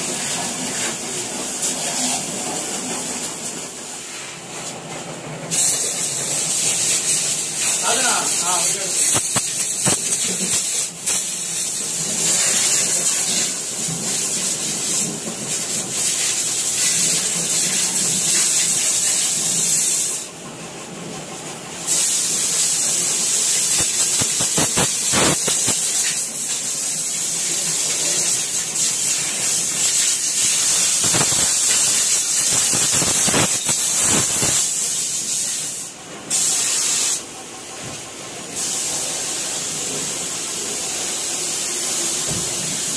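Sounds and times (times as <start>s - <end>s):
spray gun hissing: 5.5s - 20.3s, 21.9s - 37.2s, 38.5s - 42.9s.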